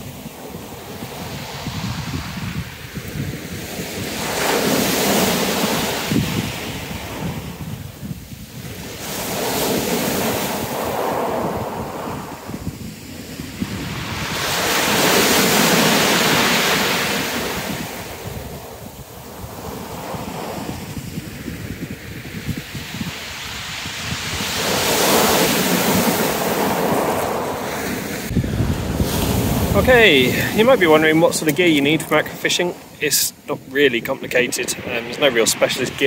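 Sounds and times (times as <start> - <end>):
waves breaking on shingle beach: 0.0 - 36.0
wind buffeting microphone: 0.0 - 36.0.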